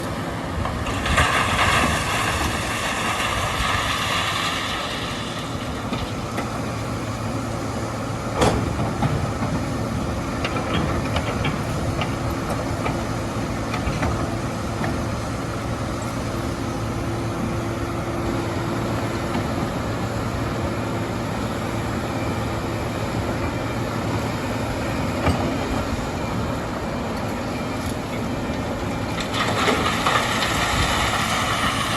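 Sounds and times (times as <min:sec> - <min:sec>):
diesel engines running: 0:00.0 - 0:31.9.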